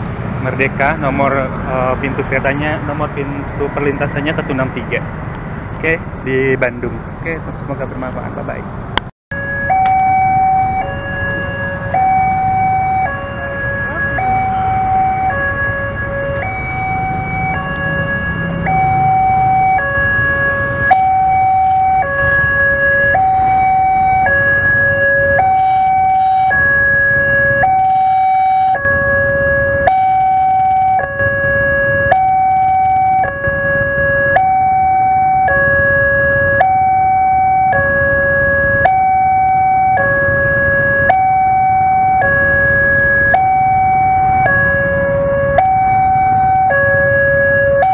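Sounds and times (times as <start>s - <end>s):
traffic idling: 0.0s - 47.9s
two-tone level crossing alarm: 9.3s - 47.9s.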